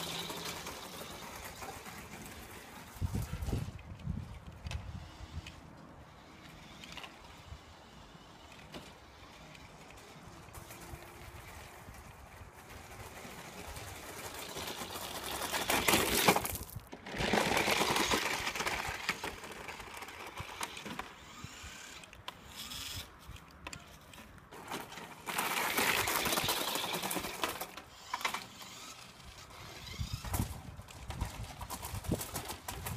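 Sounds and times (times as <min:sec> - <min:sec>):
small electric motor running: 0:00.0 - 0:16.5, 0:17.1 - 0:24.1, 0:25.2 - 0:32.9
tyres on loose gravel: 0:00.0 - 0:32.9.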